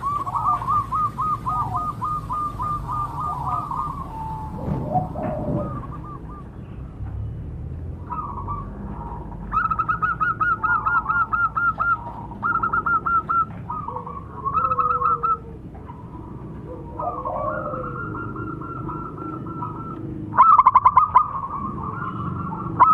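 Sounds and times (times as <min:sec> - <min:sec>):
doves cooing: 0:00.0 - 0:07.1, 0:07.9 - 0:22.9.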